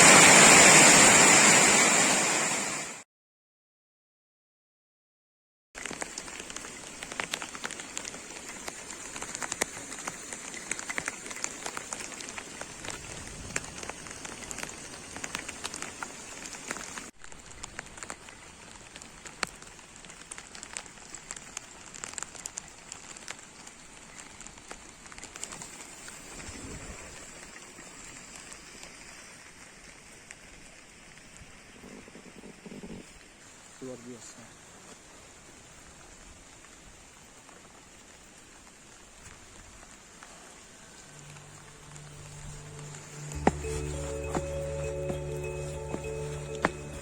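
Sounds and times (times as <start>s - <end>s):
rain pattering: 5.8s - 47.0s.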